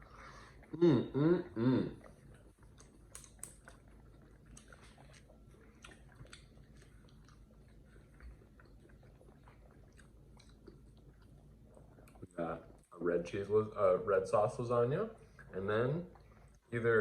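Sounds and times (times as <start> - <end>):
low room hum: 0.0 - 17.0
people chewing food: 0.0 - 17.0.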